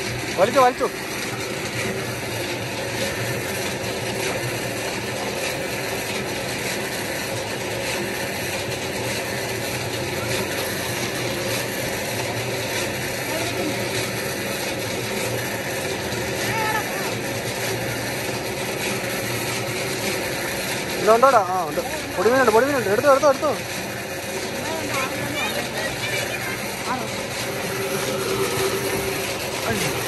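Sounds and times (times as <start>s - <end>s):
water pump motor humming: 0.0s - 30.0s.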